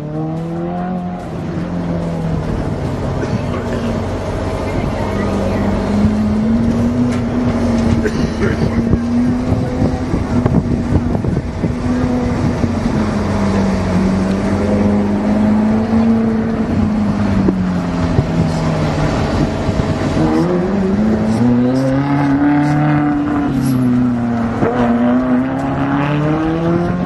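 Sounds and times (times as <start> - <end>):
sports car engine accelerating: 0.0 - 27.0.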